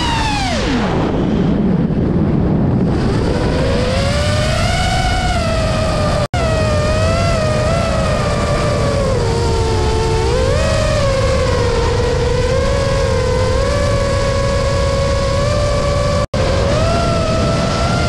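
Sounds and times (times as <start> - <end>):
drone motors whining: 0.0 - 18.0
wind rumble on microphone: 0.0 - 18.0.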